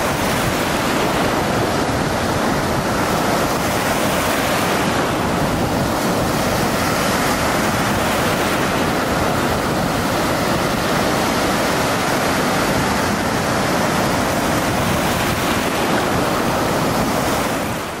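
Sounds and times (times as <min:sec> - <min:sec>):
steady dense rushing noise: 0:00.0 - 0:18.0.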